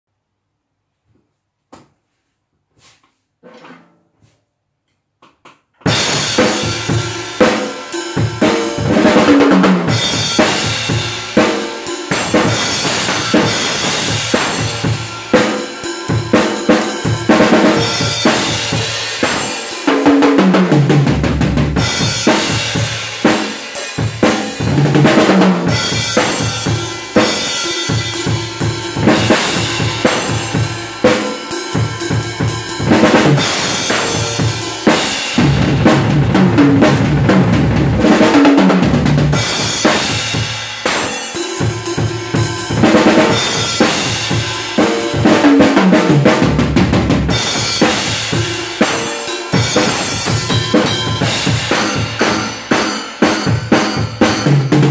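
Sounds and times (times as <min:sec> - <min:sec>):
acoustic drum kit played fast: 0:05.8 - 0:54.9.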